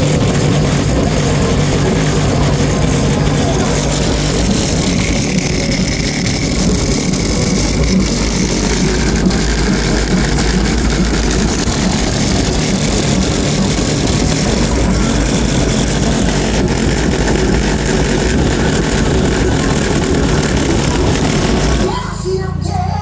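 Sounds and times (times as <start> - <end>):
bass-heavy music from car speakers: 0.0 - 23.0.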